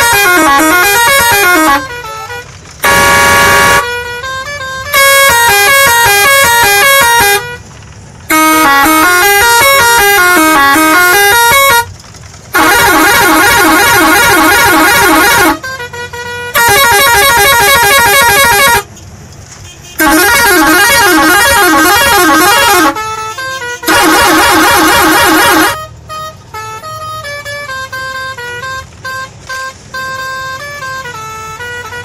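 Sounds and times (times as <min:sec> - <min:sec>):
horn playing short tune: 0:00.0 - 0:07.6, 0:08.3 - 0:11.9, 0:12.6 - 0:18.9, 0:19.9 - 0:28.5
truck horn blasts: 0:00.0 - 0:11.9, 0:12.5 - 0:19.0, 0:19.6 - 0:32.0.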